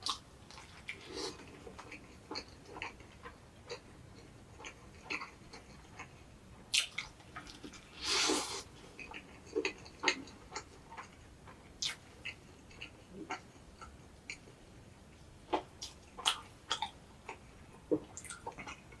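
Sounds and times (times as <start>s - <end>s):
person chewing food: 0.0s - 14.6s, 15.5s - 19.0s.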